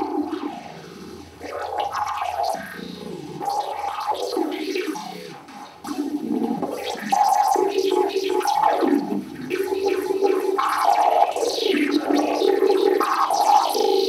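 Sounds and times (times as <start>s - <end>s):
grainy electronic noise texture: 0.0s - 14.0s.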